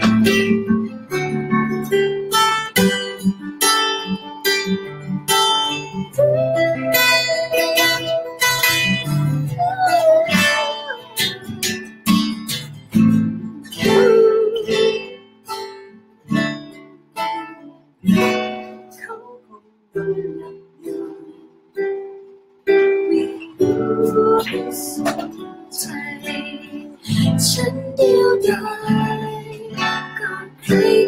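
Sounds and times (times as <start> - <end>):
acoustic guitar chords: 0.0 - 31.0.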